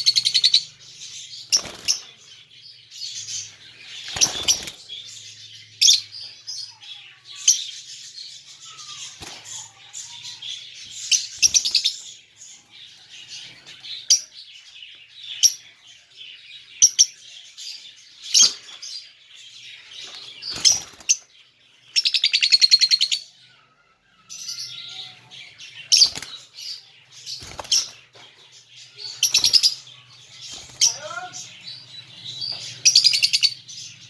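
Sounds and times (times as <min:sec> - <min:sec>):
parrots chirping: 0:00.0 - 0:18.8, 0:19.8 - 0:34.0.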